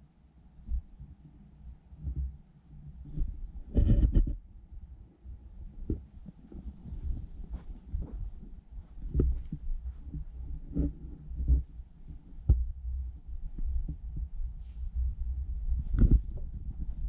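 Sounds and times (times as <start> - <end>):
dull thumps and low rumbling: 2.0 - 17.0.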